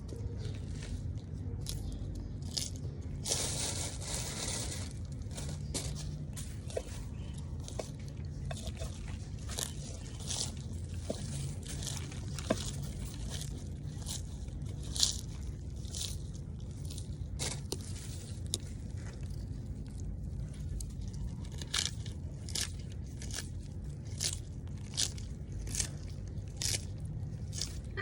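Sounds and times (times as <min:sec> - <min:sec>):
tortoise crunching food: 0:00.0 - 0:28.0.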